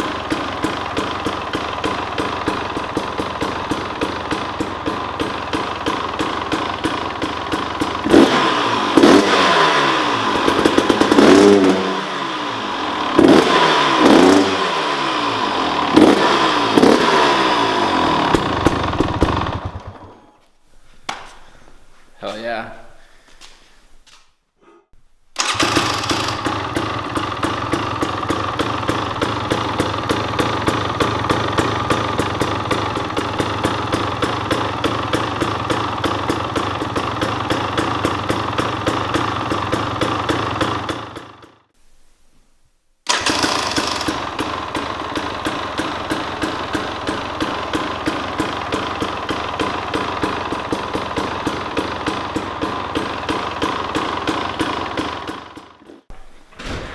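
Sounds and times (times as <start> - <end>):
two-stroke engine idling: 0.0 - 20.3, 25.4 - 41.6, 43.1 - 56.0.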